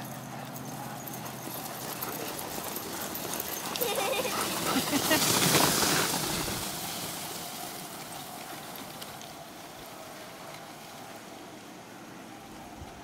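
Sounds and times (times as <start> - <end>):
dog sled hissing over snow: 0.8 - 13.0.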